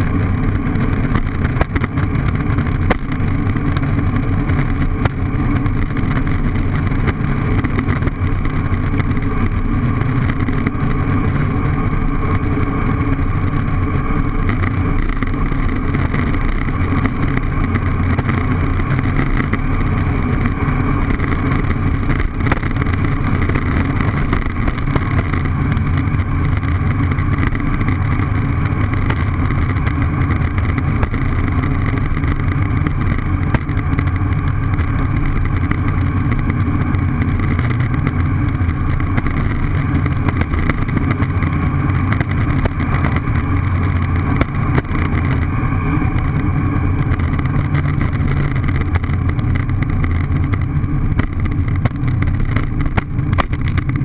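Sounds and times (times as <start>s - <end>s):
longboard wheels rolling on asphalt: 0.0s - 54.0s.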